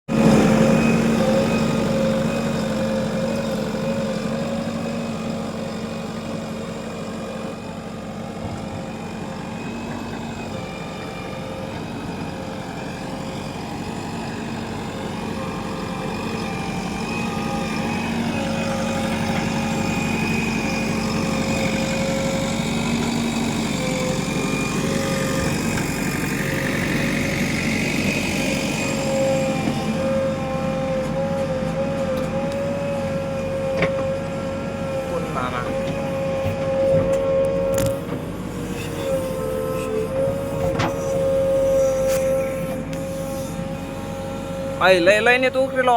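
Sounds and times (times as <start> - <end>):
diesel engine running: 0.1 - 45.9.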